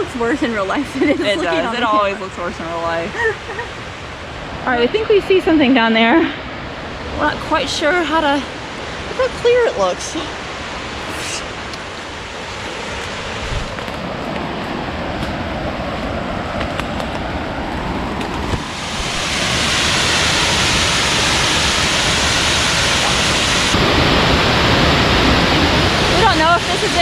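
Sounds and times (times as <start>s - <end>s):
creek and waterfall rushing: 0.0s - 27.0s.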